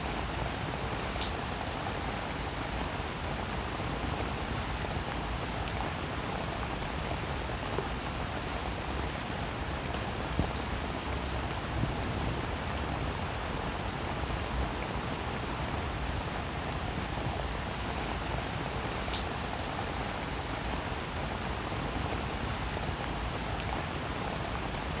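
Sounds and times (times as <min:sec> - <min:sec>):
steady hiss with faint ticks: 0:00.0 - 0:08.1, 0:09.0 - 0:14.8, 0:15.6 - 0:24.6.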